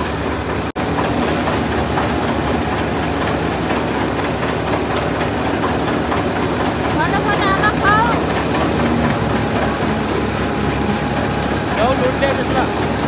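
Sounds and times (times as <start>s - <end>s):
threshing machine running: 0.0s - 13.0s
tractor engine drone: 0.0s - 13.0s.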